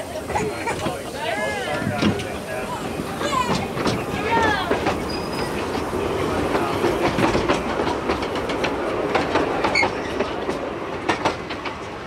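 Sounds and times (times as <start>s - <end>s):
train rumbling: 0.0s - 12.0s
wheels clattering over rail joints: 0.1s - 12.0s.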